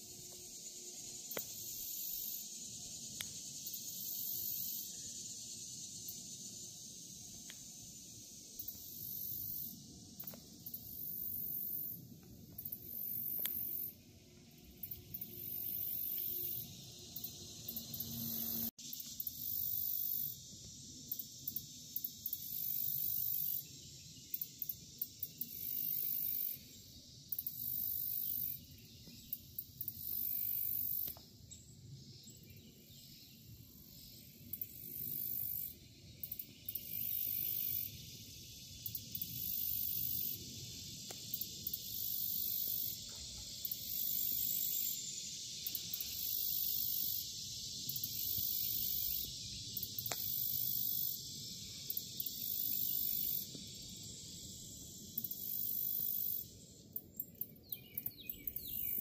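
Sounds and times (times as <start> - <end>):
high hissing insect buzz: 0.0 - 59.0
soft steady insect hiss: 0.0 - 59.0.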